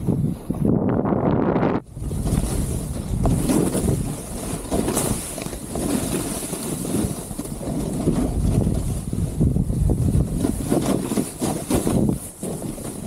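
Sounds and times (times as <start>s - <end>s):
wind buffeting microphone: 0.0s - 13.0s
snowboard scraping through snow: 0.1s - 13.0s.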